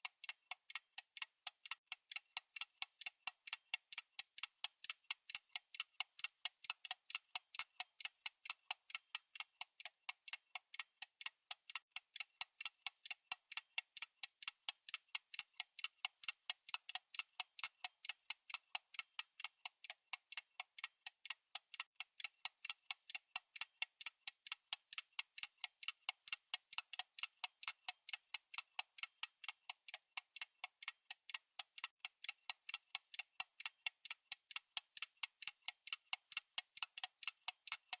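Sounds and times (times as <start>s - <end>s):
clock ticking: 0.0s - 38.0s.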